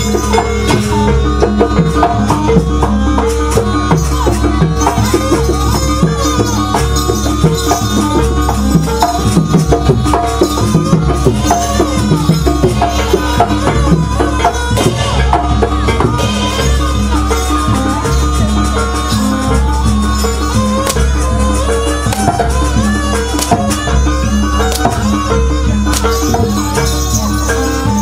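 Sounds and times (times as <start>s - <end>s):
drums: 0.0s - 28.0s
rattling percussion: 0.0s - 28.0s
wavering melody line: 0.0s - 28.0s.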